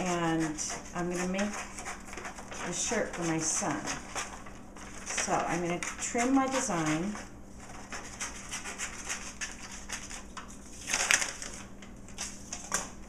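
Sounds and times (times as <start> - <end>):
paper rustling: 1.5 - 13.0.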